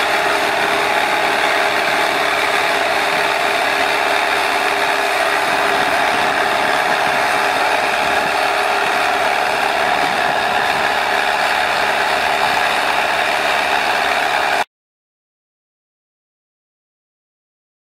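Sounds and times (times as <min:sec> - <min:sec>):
tractor diesel engine under load: 0:00.0 - 0:14.7.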